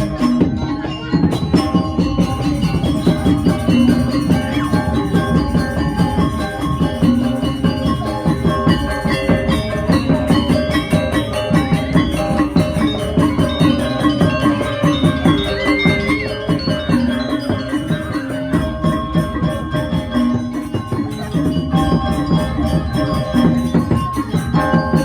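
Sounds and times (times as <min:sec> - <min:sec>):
fast drum rhythm: 0:00.0 - 0:25.0
metallophone tones ringing: 0:00.0 - 0:25.0.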